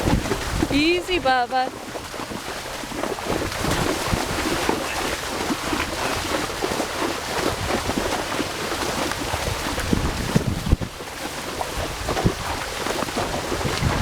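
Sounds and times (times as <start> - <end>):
horses splashing through water: 0.0 - 14.0.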